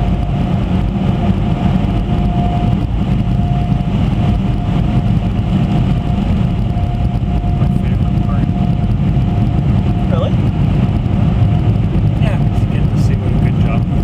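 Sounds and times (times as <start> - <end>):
car wash machinery rumbling: 0.0 - 14.0
faint steady whine: 0.0 - 14.0.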